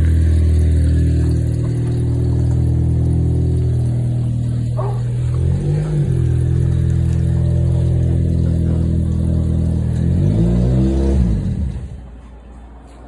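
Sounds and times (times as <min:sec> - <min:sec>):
furnace burner humming: 0:00.0 - 0:12.2.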